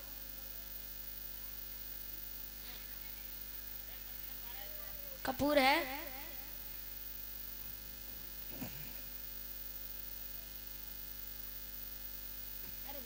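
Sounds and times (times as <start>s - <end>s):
electrical mains hum and buzz: 0.0s - 13.0s.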